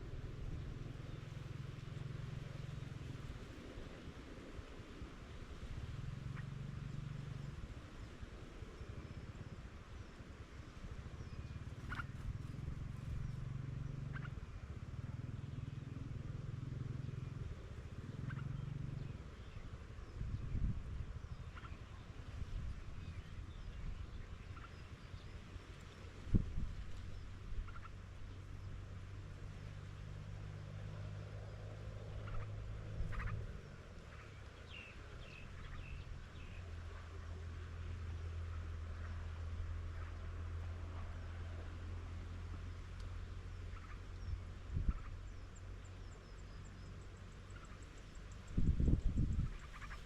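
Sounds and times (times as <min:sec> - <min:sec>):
small birds chirping: 0:00.0 - 0:04.0, 0:06.3 - 0:50.0
low steady rumble: 0:00.0 - 0:50.0
steady low hum: 0:00.0 - 0:50.0.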